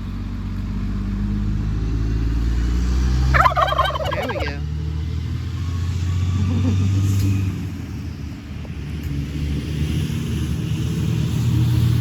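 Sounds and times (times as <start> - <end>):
truck engine passing: 0.0 - 12.0.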